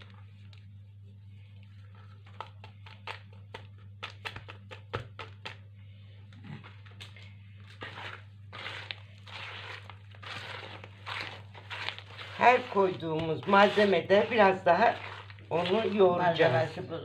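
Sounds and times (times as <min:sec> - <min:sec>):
hand squishing dough: 0:00.0 - 0:17.0
steady low hum: 0:00.0 - 0:17.0.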